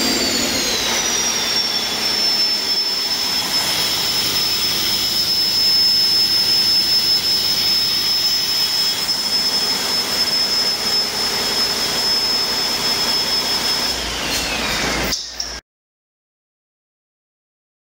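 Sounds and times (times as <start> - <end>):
turbocharger whine: 0.0 - 15.1.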